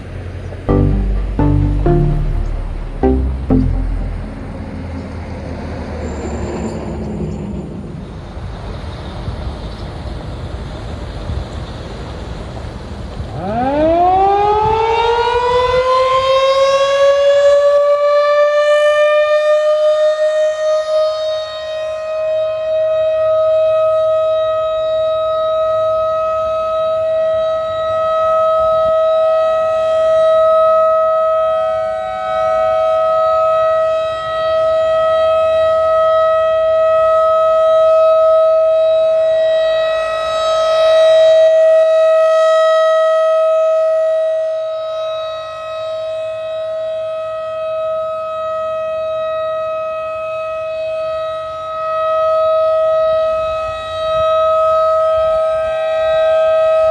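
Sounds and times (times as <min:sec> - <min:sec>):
outdoor warning siren: 0:00.7 - 0:05.2, 0:13.3 - 0:56.9.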